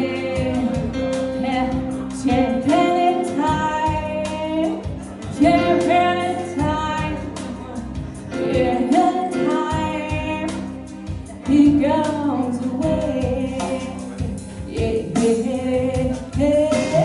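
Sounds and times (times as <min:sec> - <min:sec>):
keyboard chords: 0:00.0 - 0:17.0
woman singing into microphone: 0:00.0 - 0:17.0.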